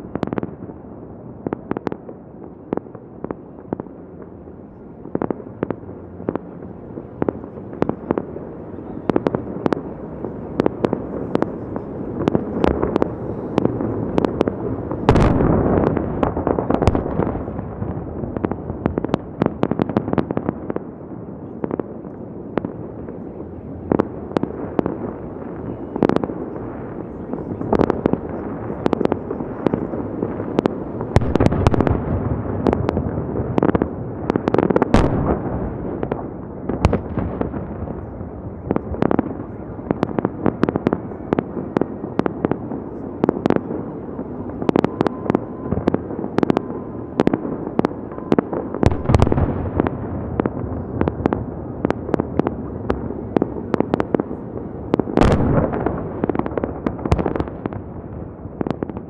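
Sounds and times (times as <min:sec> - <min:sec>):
continuous rumble: 0:00.0 - 0:59.0
heavy firework booms: 0:05.0 - 0:59.0.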